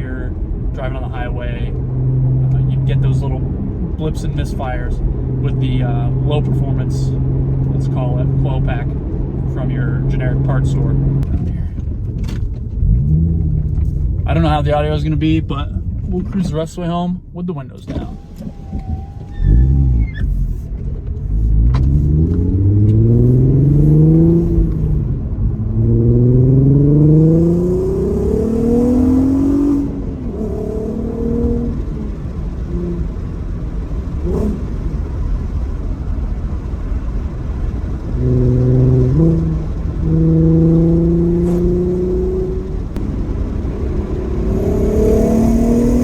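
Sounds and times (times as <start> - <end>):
car engine accelerating through gears: 0.0 - 16.3, 18.0 - 46.0
road and wind noise: 0.0 - 46.0.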